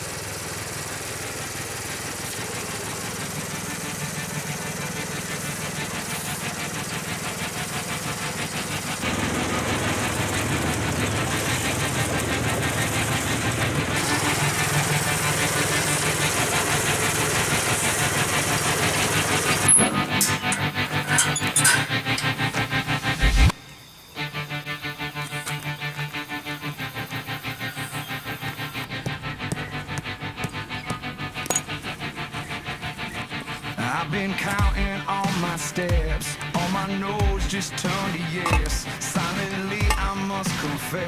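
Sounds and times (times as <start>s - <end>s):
small gasoline engine running: 0.0s - 41.0s.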